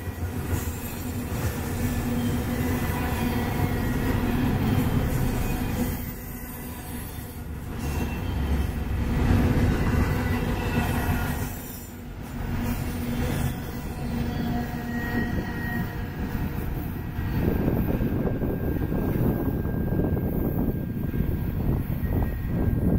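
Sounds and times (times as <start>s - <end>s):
high squealing wheels: 0.0s - 22.9s
train wheels rumbling on rails: 0.0s - 22.9s.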